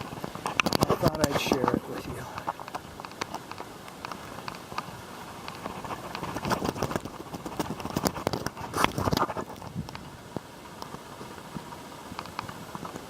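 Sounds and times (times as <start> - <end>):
footsteps on shingle roof: 0.0 - 13.0.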